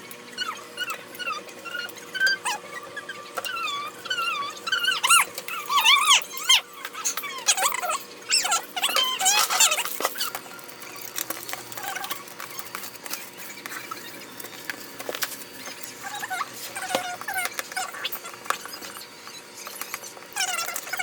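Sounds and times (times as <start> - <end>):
pet animal squeaking and whining: 0.0 - 21.0.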